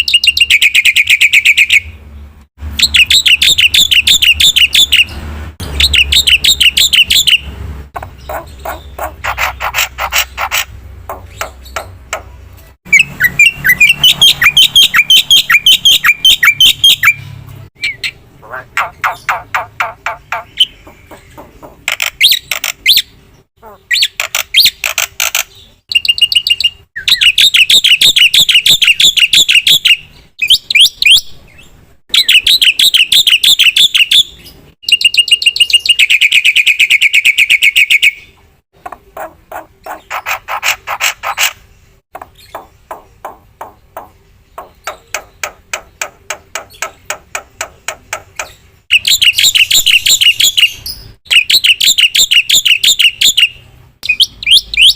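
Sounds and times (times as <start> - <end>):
starling singing: 2.8 - 41.6, 42.2 - 54.9.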